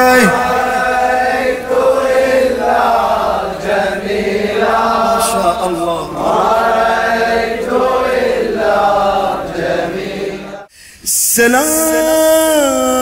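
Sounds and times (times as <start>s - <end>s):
voices chanting mournful melody: 0.0s - 10.7s.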